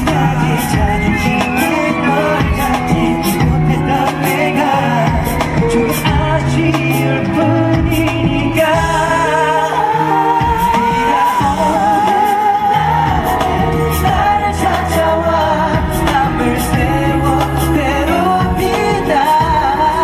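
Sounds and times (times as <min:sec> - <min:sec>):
man singing into microphone: 0:00.0 - 0:20.0
pop backing music: 0:00.0 - 0:20.0.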